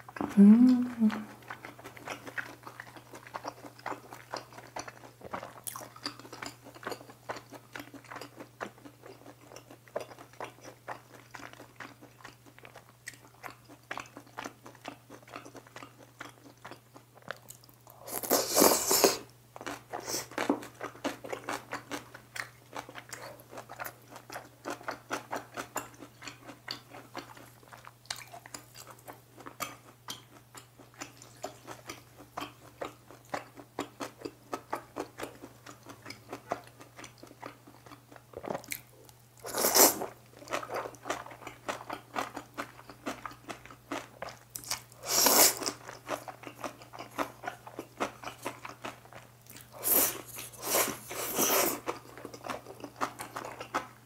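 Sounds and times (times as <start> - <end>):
close chewing: 0.1 - 54.0.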